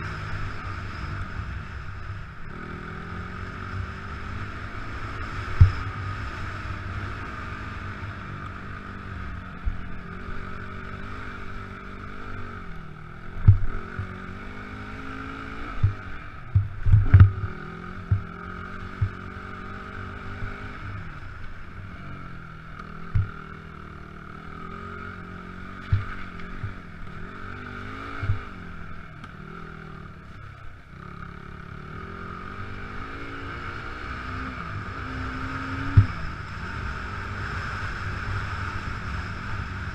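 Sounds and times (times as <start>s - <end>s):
motocross bike engine revving: 0.0s - 30.4s, 31.0s - 39.9s.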